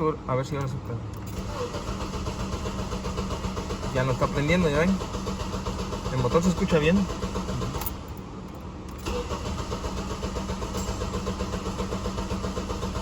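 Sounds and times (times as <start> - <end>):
car engine cranking: 0.6 - 8.2, 8.9 - 13.0.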